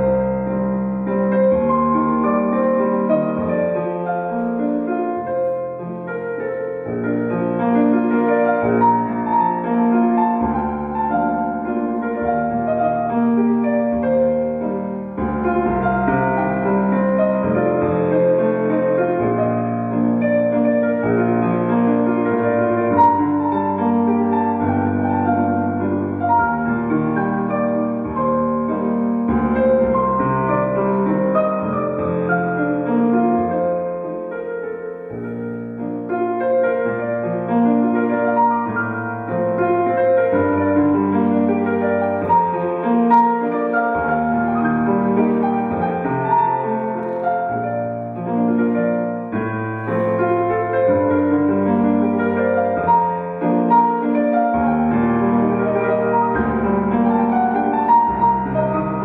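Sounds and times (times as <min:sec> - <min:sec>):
slow solo piano music: 0:00.0 - 0:59.0.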